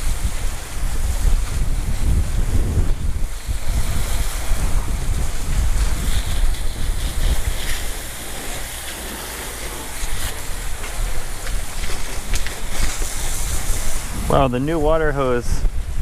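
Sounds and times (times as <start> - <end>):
hose spraying water: 0.0 - 16.0.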